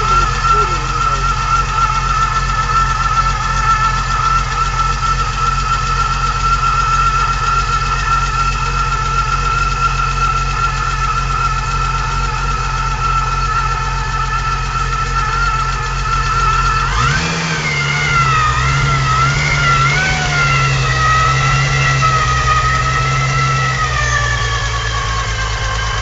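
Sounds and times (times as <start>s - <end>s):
car engine revving: 0.0s - 26.0s
supercharger whine: 0.0s - 26.0s.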